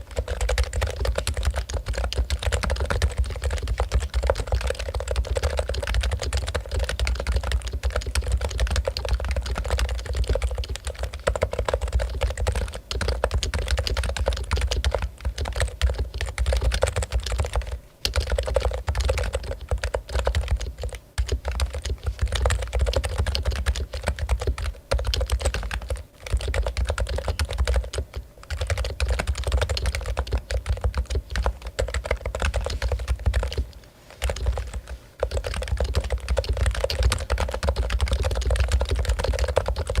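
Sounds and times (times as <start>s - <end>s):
fast keyboard typing: 0.0s - 40.0s.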